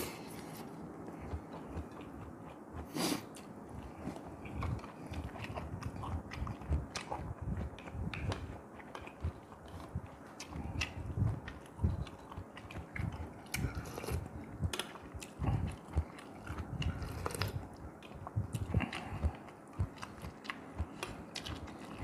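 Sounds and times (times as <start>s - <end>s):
chewing rice: 0.0s - 22.0s.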